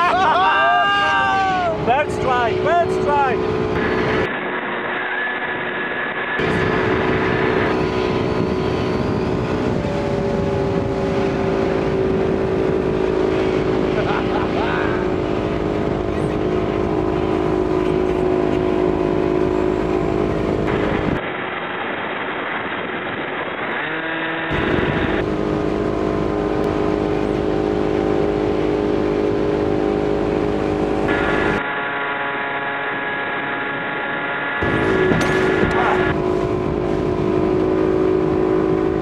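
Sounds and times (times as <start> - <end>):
boat engine: 0.0 - 39.0
electric motor and propeller drone: 0.0 - 39.0.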